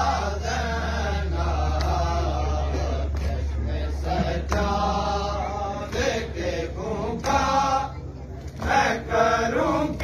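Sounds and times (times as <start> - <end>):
men chanting a lament: 0.0 - 10.0.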